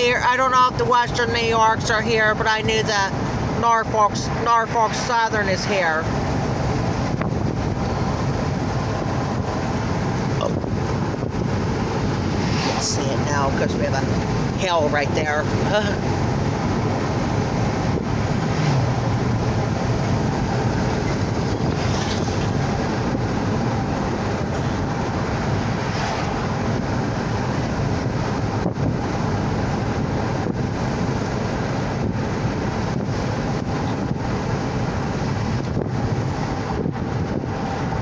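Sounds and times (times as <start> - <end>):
low rumble: 0.0 - 38.0
steady rushing noise: 0.0 - 38.0.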